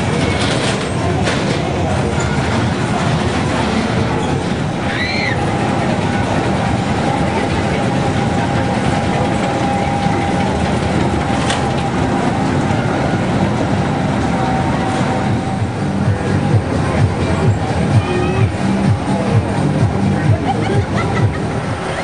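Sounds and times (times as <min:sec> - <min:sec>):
ride cars rattling on track: 0:00.0 - 0:22.0.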